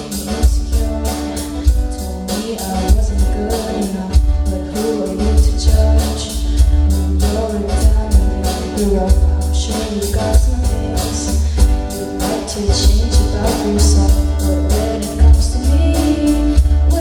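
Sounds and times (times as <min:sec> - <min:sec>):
person singing: 0:00.0 - 0:17.0
plucked guitar: 0:00.0 - 0:17.0
song with beat and bass: 0:00.0 - 0:17.0.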